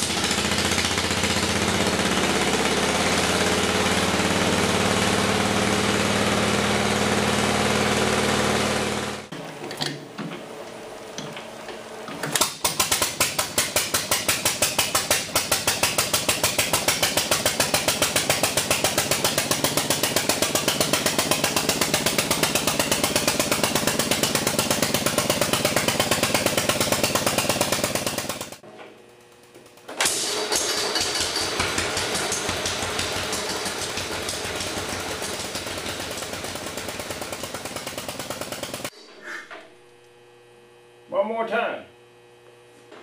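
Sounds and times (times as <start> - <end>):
single-cylinder engine running: 0.0 - 39.6.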